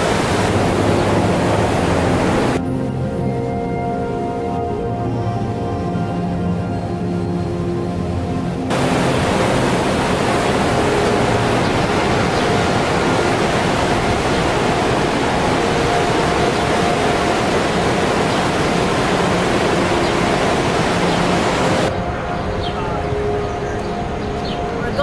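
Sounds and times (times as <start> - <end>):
river rapids rushing: 0.0 - 2.6, 7.5 - 25.0.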